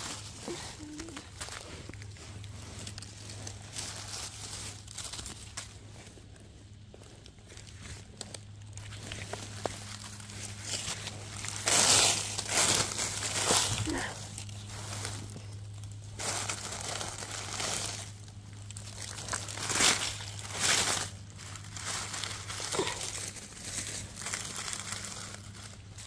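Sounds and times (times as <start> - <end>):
dry leaves rustling and crackling: 0.0 - 26.0.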